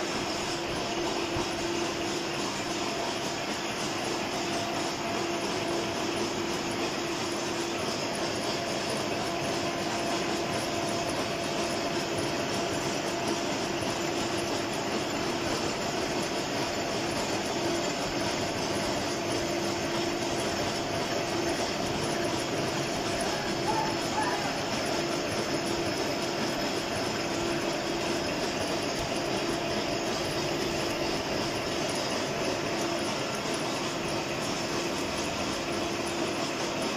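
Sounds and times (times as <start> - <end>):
gear hobbing machine running: 0.0 - 36.9.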